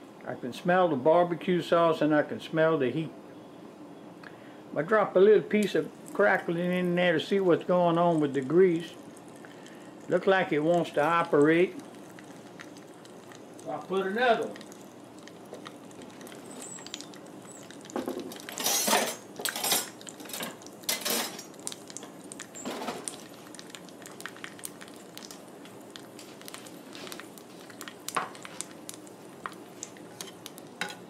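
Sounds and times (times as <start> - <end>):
oil sizzling: 5.0 - 31.0
sharp pops and crackles: 5.6 - 31.0.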